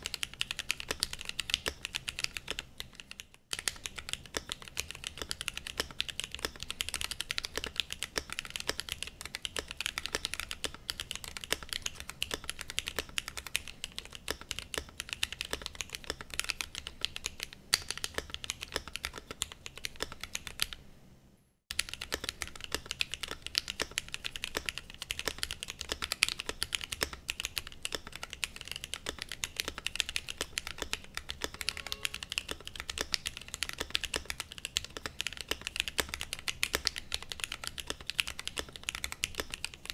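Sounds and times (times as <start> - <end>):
mechanical keyboard typing: 0.0 - 20.8, 21.7 - 39.9.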